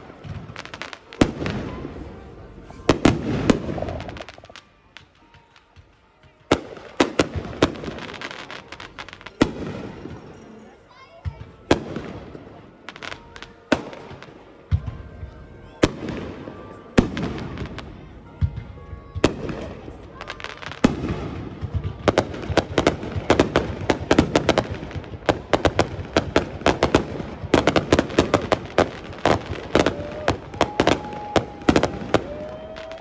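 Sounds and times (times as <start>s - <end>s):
fireworks banging: 0.0s - 33.0s.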